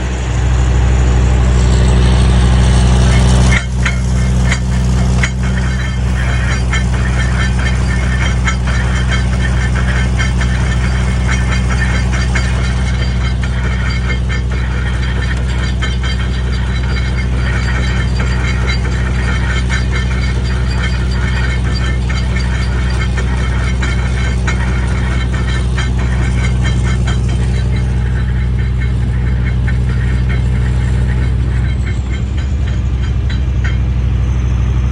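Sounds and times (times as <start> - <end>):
jaw crusher drive hum: 0.0 - 34.9
metallic rattling and knocking: 3.0 - 34.1.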